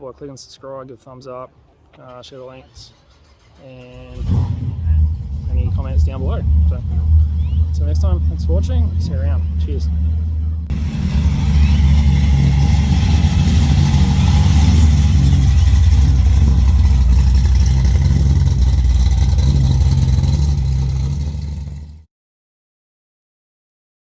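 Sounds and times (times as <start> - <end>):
car engine rumbling: 1.8 - 22.0.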